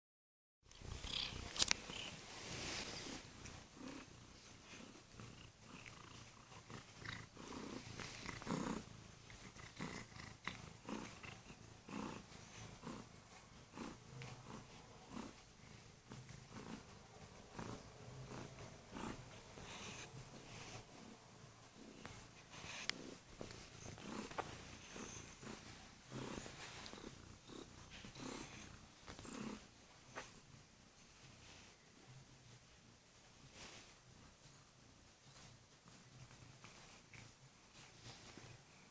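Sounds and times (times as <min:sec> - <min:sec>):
cat purring: 0:00.7 - 0:32.6.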